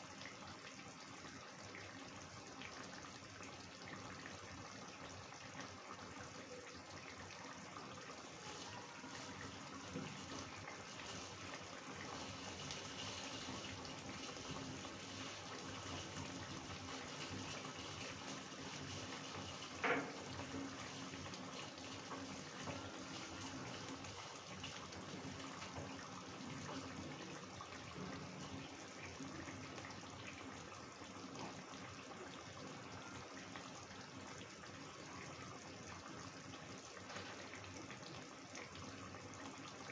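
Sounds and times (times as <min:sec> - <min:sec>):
curry gravy bubbling: 0:00.0 - 0:39.9.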